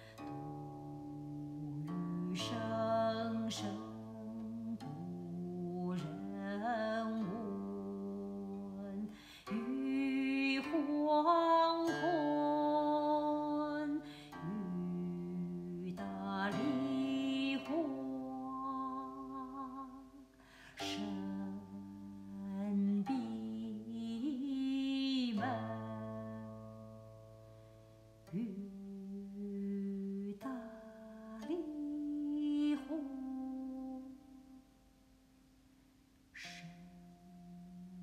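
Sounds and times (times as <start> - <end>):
plucked zither notes: 0.0 - 34.8.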